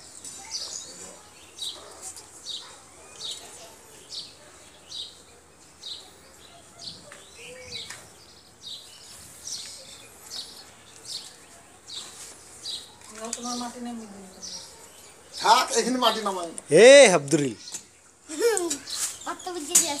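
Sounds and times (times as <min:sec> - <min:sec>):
small bird chirping: 0:00.0 - 0:16.4, 0:17.5 - 0:20.0.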